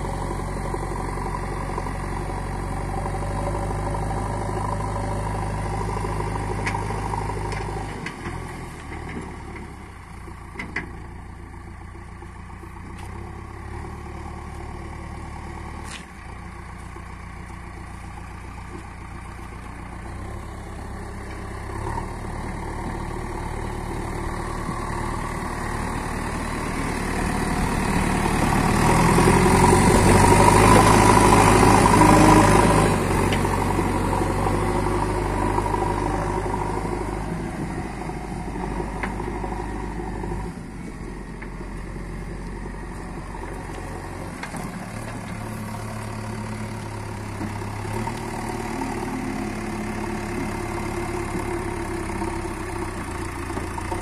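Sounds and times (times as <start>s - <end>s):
backhoe loader diesel engine running: 0.0s - 54.0s.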